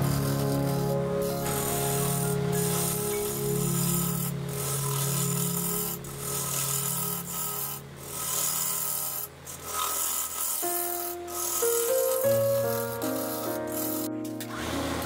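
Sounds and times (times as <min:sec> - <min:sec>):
gouge rasping on spinning wood: 0:00.0 - 0:14.1
lathe humming: 0:00.0 - 0:15.0.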